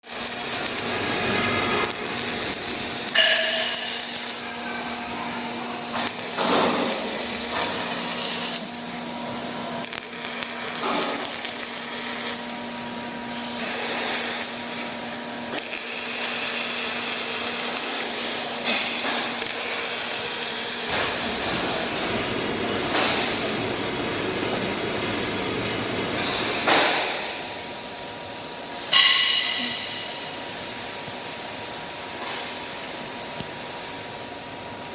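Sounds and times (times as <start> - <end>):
machine and tool sounds: 0.0 - 30.4
arc welding hissing and crackling: 0.0 - 34.9
steady hum: 0.0 - 34.9.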